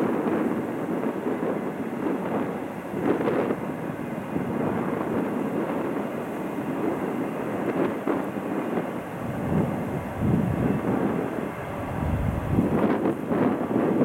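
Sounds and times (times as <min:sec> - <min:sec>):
train clanks: 0:00.0 - 0:12.0
freight train wheels rumbling: 0:00.0 - 0:14.0.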